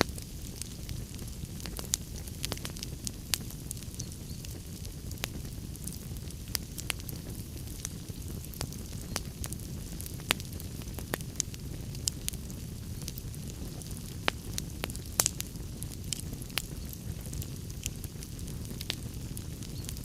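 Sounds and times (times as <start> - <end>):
log fire crackling and popping: 0.0 - 20.0
low rumble of flames: 0.0 - 20.0.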